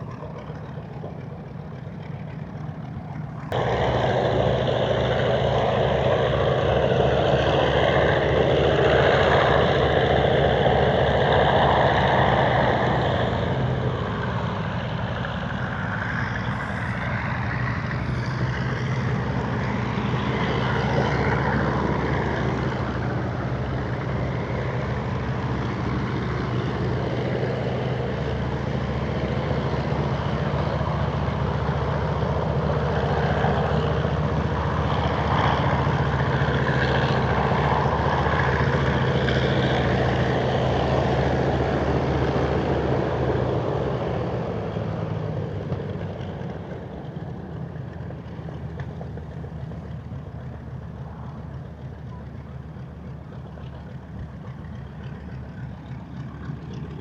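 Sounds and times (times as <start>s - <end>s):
piston aircraft engines droning: 0.0s - 57.0s.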